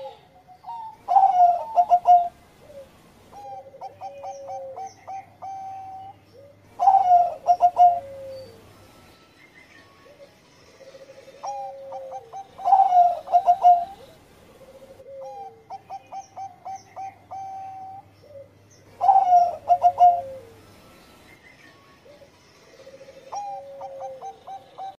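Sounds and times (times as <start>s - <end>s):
dove cooing song: 0.0s - 8.8s, 10.0s - 20.8s, 22.0s - 25.0s.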